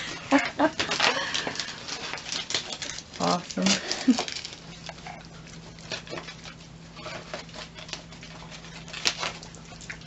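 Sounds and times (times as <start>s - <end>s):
wrapping paper crinkling and tearing: 0.0s - 10.0s.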